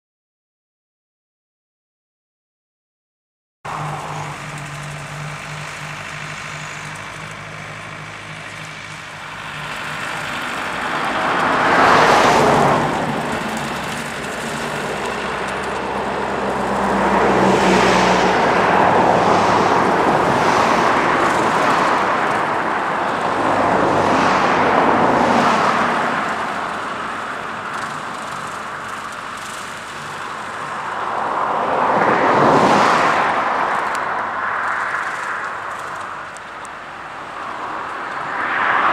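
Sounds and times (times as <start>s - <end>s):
tractor diesel engine running: 3.7s - 32.6s, 33.2s - 38.4s.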